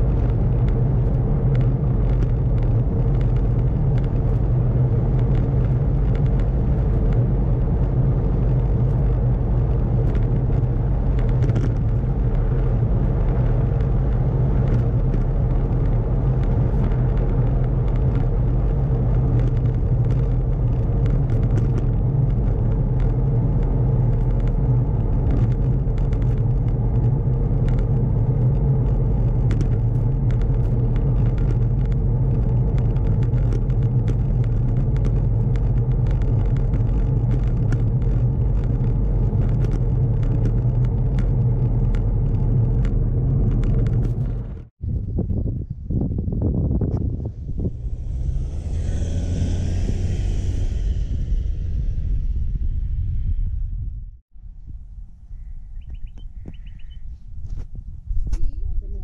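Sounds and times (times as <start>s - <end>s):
bicycle tyres rolling on asphalt: 0.0s - 54.2s
wind rushing over microphone: 0.0s - 59.0s.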